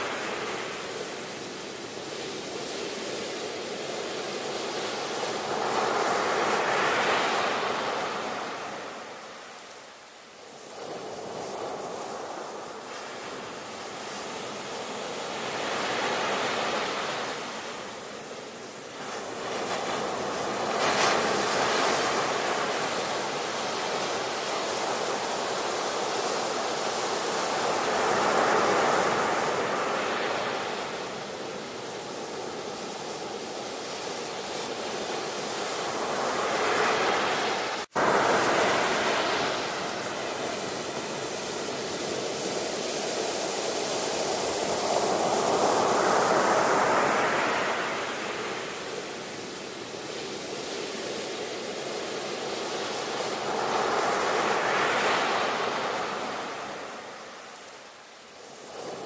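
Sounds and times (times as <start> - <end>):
ocean waves breaking: 10.5 - 59.0.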